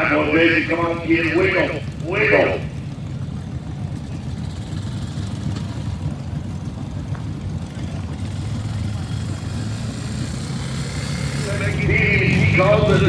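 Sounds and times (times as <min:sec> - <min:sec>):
small tractor engine running: 0:00.0 - 0:13.0.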